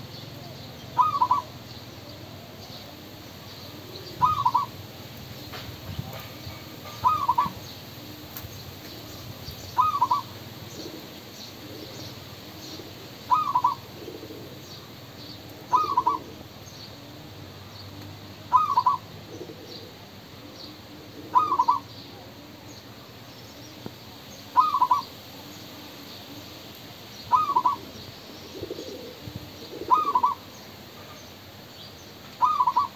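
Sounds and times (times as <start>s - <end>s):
dove cooing: 0.0s - 17.3s, 18.4s - 22.7s, 24.5s - 26.4s, 27.3s - 30.5s, 32.4s - 32.9s.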